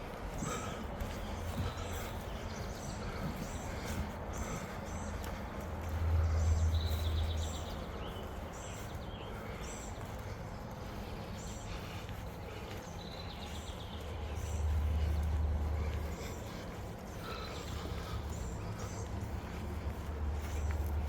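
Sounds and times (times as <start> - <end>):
small birds chirping: 0.0 - 21.0
walking footsteps: 0.0 - 21.0.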